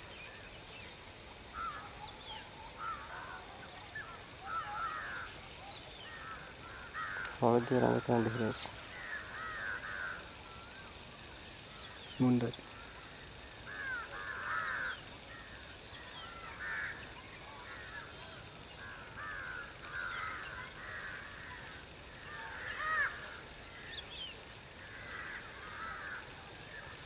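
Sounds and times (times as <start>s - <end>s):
birds chattering: 0.0s - 27.0s.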